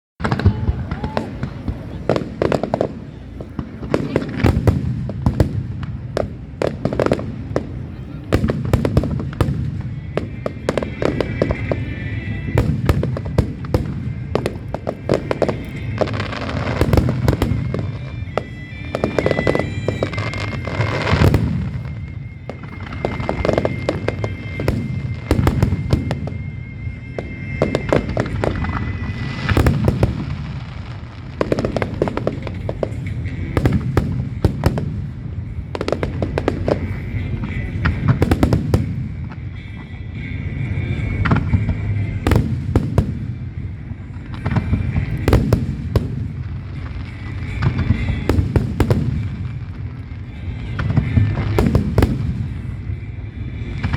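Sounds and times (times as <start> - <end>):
continuous low rumble: 0.2 - 53.9.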